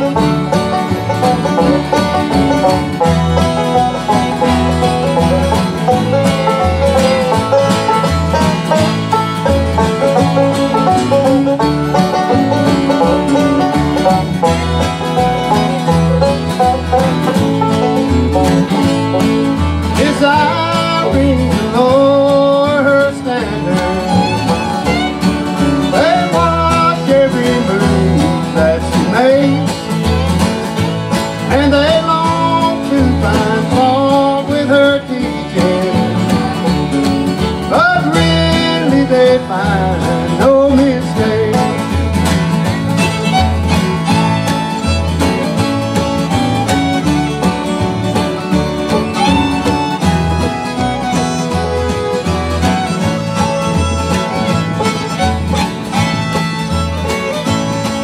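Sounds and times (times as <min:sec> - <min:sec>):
acoustic guitars: 0:00.0 - 0:58.0
banjo: 0:00.0 - 0:58.0
fiddles: 0:00.0 - 0:58.0
upright bass: 0:00.0 - 0:58.0.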